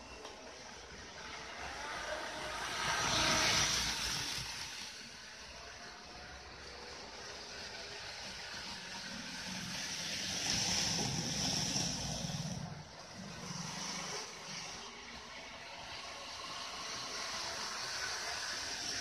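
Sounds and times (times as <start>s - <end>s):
model train rumble and hiss: 0.0s - 19.0s.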